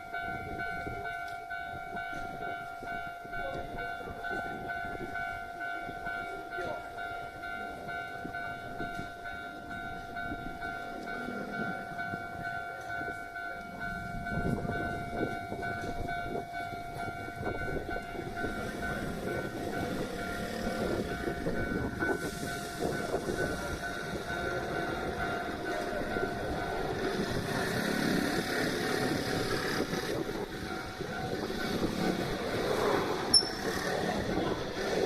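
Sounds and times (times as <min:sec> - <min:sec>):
level crossing warning bell: 0:00.0 - 0:35.0
train rumbling: 0:00.0 - 0:35.0.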